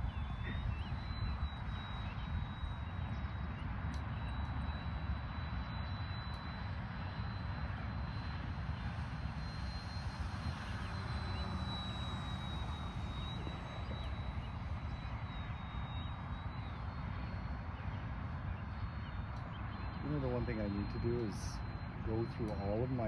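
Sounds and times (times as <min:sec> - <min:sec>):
rc airplane motor whine: 0:00.0 - 0:23.0.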